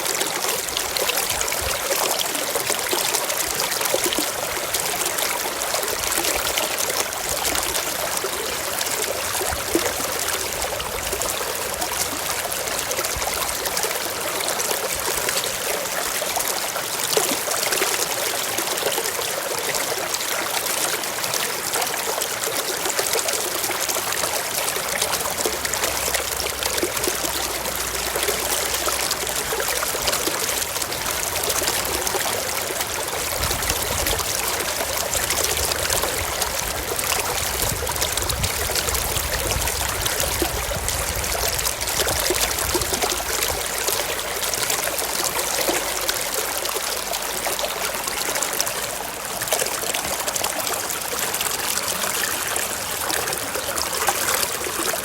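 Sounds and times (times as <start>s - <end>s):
stream water running over rocks: 0.0s - 55.0s.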